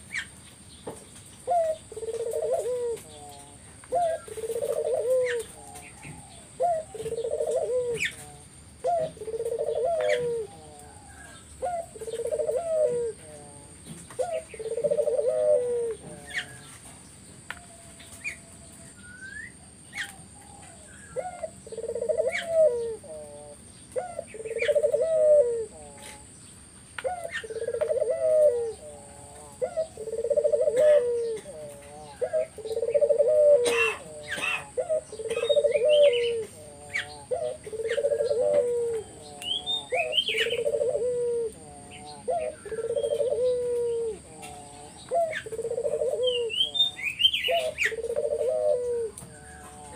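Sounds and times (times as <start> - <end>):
small birds chirping: 0.0 - 49.9
dove cooing: 1.4 - 16.9, 17.5 - 26.4, 27.0 - 49.9.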